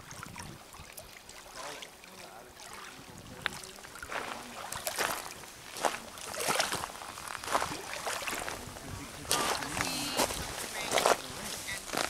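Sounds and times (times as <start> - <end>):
waves lapping on pebbles: 0.0 - 12.0.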